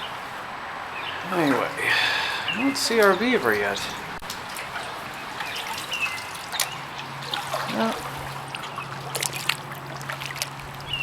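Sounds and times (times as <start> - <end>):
water dripping off paddle: 1.2 - 11.0.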